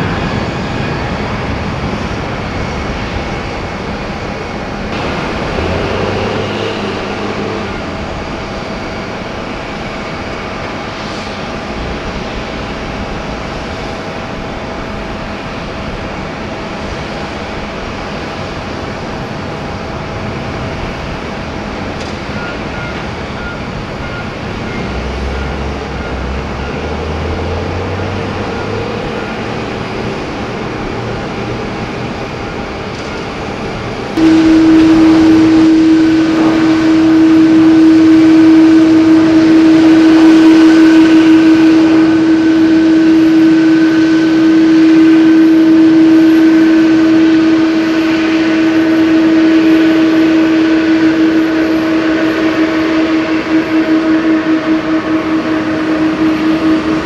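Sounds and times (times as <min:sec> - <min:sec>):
jet engine rumble: 0:00.0 - 0:57.0
loud jet drone with hum: 0:00.0 - 0:57.0.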